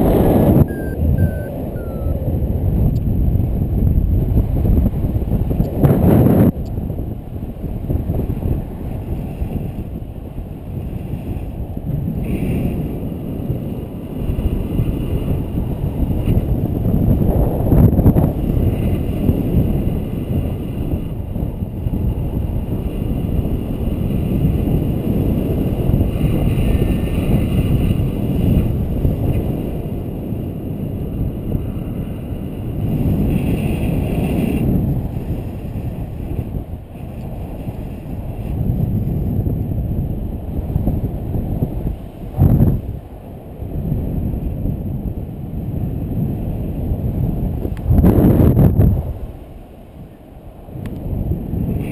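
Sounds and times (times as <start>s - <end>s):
wind rumbling on microphone: 0.0s - 51.9s.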